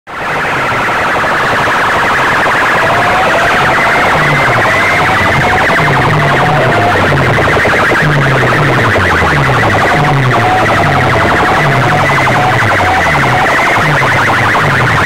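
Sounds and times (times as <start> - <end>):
pulsing siren-like electronic tone: 0.1 - 15.0
low bass notes: 2.7 - 15.0.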